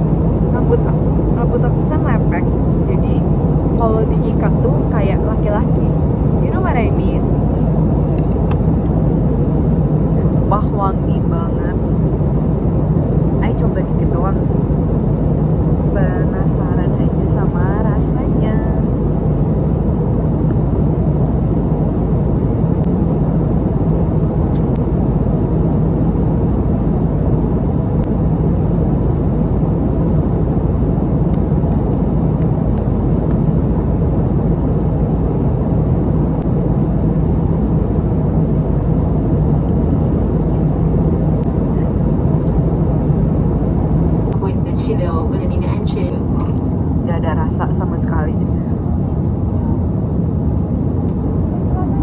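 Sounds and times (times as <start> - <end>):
airliner engine and airflow rumble: 0.0 - 52.0.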